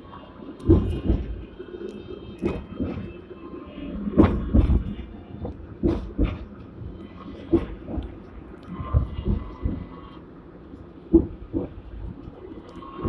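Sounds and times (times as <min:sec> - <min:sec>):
tram running low rumble: 0:00.0 - 0:13.0.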